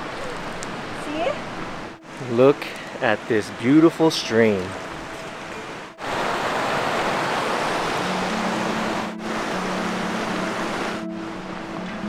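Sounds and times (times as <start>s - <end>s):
stream water rushing: 0.0s - 12.0s
soft music with held notes: 1.9s - 12.0s.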